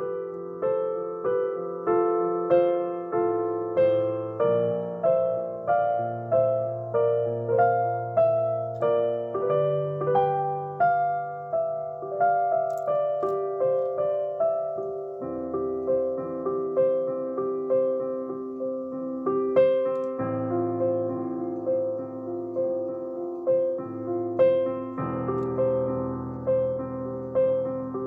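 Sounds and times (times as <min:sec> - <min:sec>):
slow gentle piano piece: 0:00.0 - 0:28.0.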